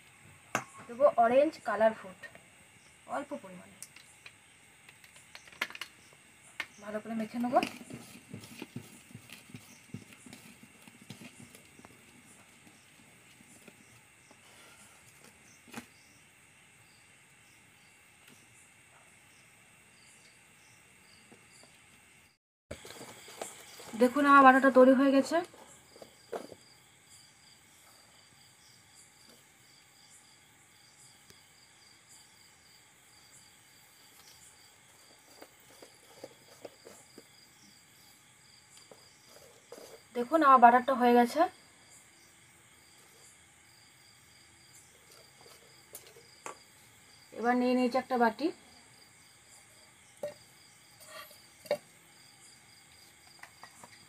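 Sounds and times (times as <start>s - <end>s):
faint insect chirping: 0.0s - 54.0s.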